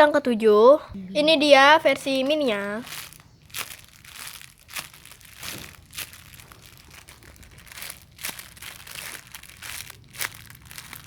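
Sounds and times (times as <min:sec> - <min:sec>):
squishy toy crinkling and rustling: 0:02.0 - 0:11.0.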